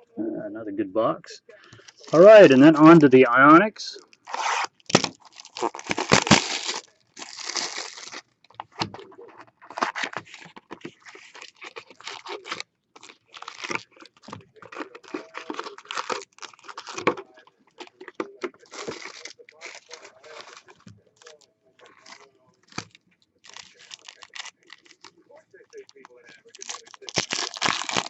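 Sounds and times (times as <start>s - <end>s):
plastic wrapping tearing and crinkling: 4.0s - 25.1s, 25.7s - 28.0s.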